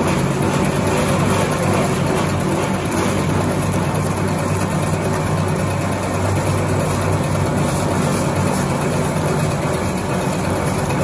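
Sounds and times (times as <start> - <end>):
machinery humming and whirring: 0.0 - 11.0.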